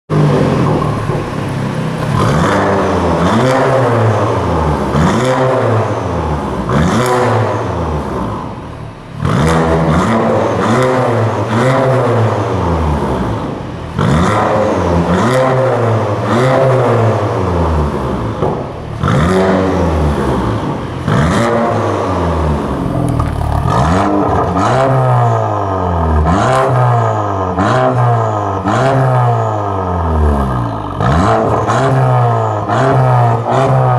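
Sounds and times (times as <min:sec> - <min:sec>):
car engine revving in blips: 0:00.1 - 0:33.9.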